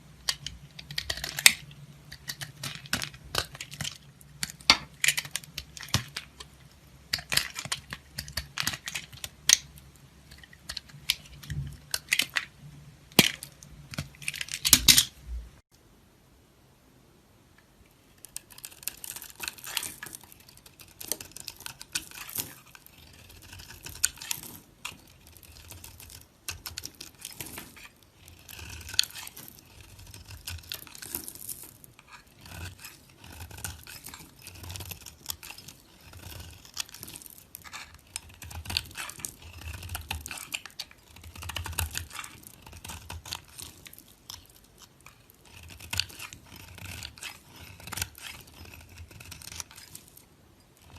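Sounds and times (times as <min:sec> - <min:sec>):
knife carving soap: 0:00.0 - 0:15.2, 0:18.2 - 0:50.9.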